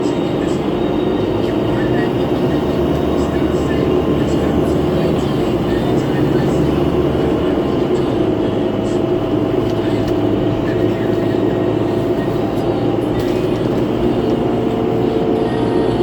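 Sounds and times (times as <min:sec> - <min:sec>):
bus engine and road rumble: 0:00.0 - 0:16.0
whining fan tones: 0:00.0 - 0:16.0.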